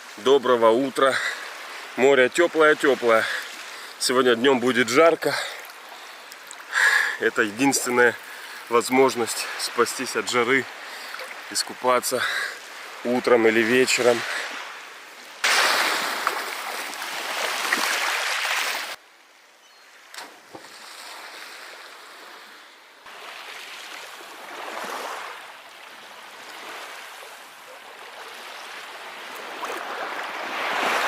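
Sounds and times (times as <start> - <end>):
sea waves washing onto shore: 0.0 - 19.0, 20.8 - 31.0.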